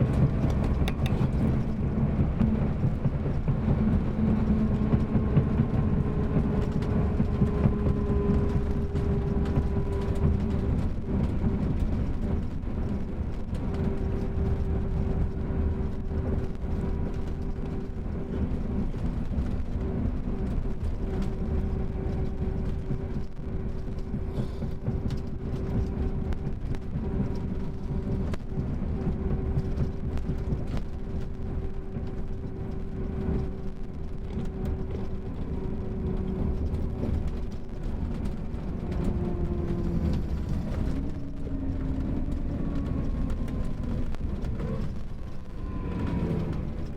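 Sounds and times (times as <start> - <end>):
diesel coach engine rumbling: 0.0 - 46.9
engine whine: 0.0 - 46.9.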